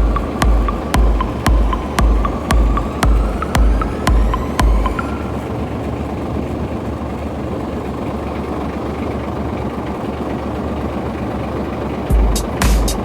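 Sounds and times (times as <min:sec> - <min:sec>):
machine rumble with low hum: 0:00.0 - 0:13.0.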